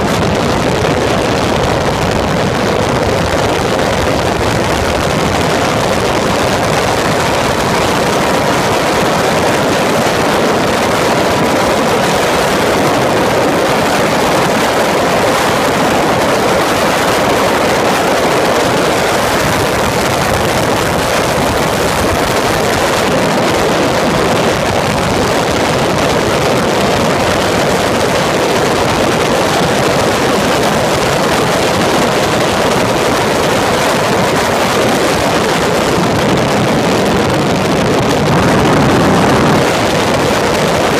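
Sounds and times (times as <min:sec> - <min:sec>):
racing car engine running hard: 0:00.0 - 0:40.9
wind rushing over microphone: 0:00.0 - 0:40.9.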